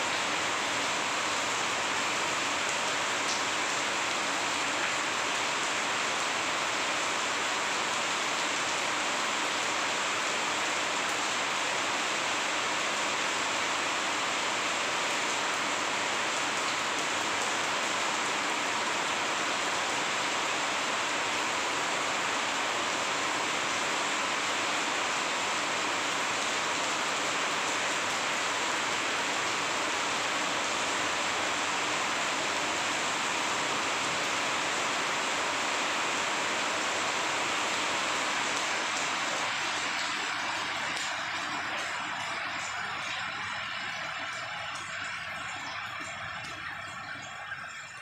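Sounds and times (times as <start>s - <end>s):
rain on concrete roof: 0.0s - 48.0s.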